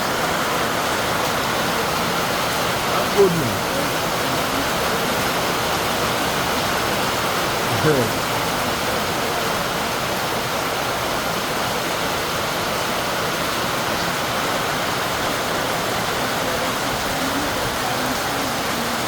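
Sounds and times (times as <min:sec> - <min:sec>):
rain on a roof: 0:00.0 - 0:19.0.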